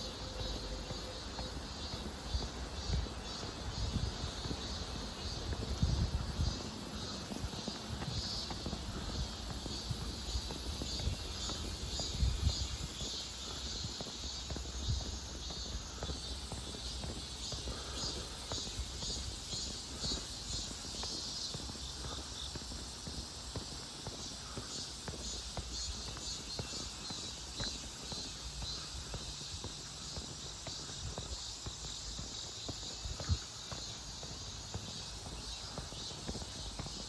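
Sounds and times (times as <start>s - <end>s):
footsteps on paved road: 0.0s - 37.0s
insects chirping: 0.0s - 37.0s.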